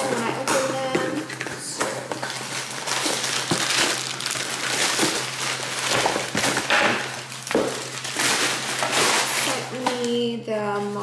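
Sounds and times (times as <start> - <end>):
paper and plastic rustling: 0.0 - 11.0.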